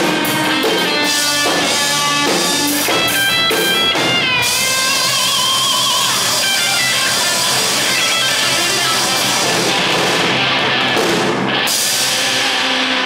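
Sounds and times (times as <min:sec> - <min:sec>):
bass guitar: 0:00.0 - 0:13.0
cymbals: 0:00.0 - 0:13.0
drum kit: 0:00.0 - 0:13.0
electric guitar: 0:00.0 - 0:13.0.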